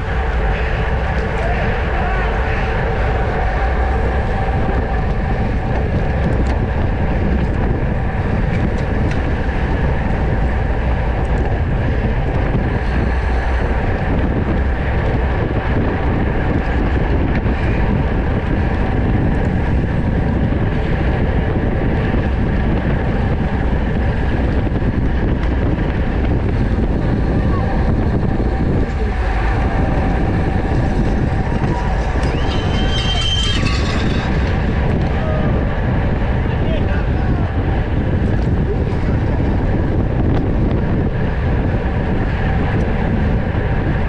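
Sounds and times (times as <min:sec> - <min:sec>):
tyre and road noise: 0:00.0 - 0:44.0
wind rushing over microphone: 0:00.0 - 0:44.0.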